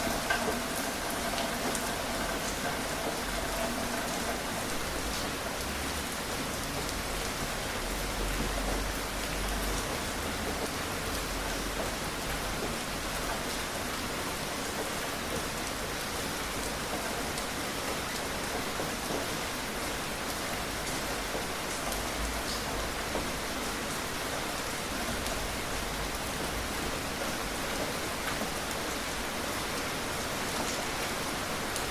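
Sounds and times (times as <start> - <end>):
steady rain: 0.0 - 31.9.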